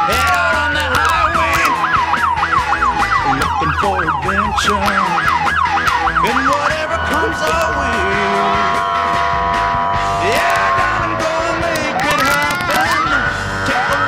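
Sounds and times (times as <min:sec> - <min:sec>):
siren wail: 0:00.0 - 0:14.0
siren yelp: 0:00.0 - 0:14.0.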